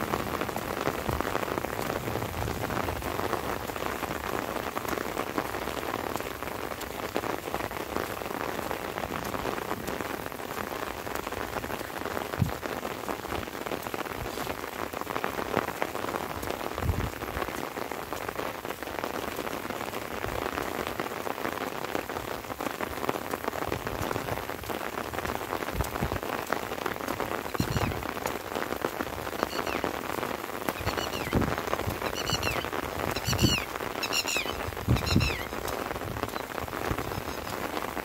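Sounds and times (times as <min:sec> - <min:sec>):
light rain falling: 0:00.0 - 0:38.0
rain drops ticking: 0:00.0 - 0:38.0.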